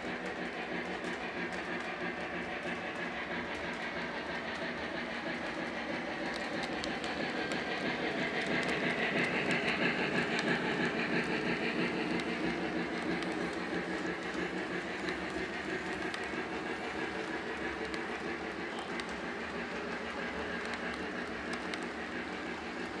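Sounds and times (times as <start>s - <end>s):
clicks at rail joints: 0.0s - 22.9s
toy train wheels rumbling: 0.0s - 23.0s.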